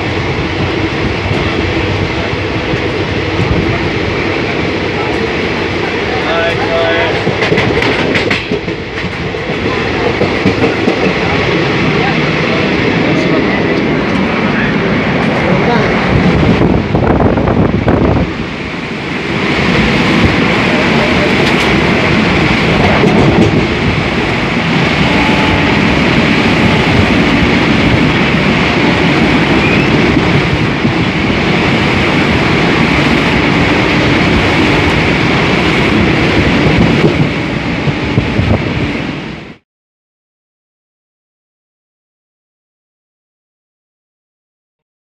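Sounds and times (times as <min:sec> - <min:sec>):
train wheels rumbling on rails: 0:00.0 - 0:39.6.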